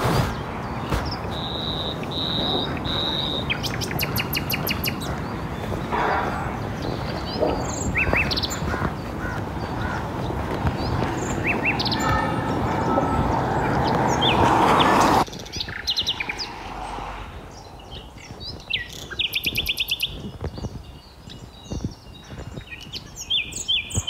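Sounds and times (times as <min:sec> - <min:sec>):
outdoor background noise: 0:00.0 - 0:24.0
birds whistling and chirping: 0:00.2 - 0:24.0.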